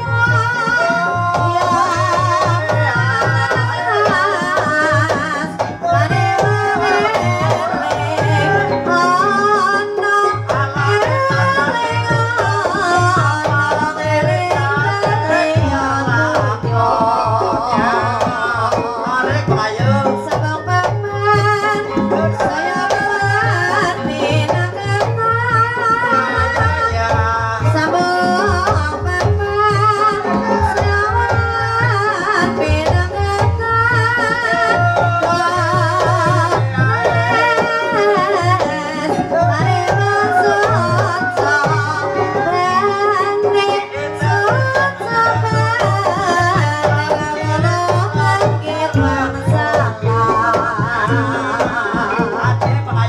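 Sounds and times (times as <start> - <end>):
gamelan music: 0.0 - 53.0
hand drums beating: 0.0 - 53.0
person singing: 0.0 - 53.0.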